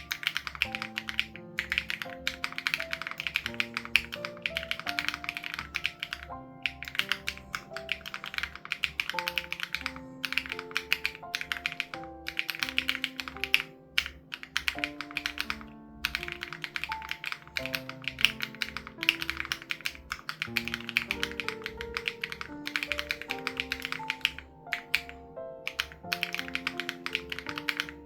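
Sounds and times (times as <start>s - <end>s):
mechanical keyboard key clacks: 0.0s - 28.0s
soft background music: 0.0s - 28.0s.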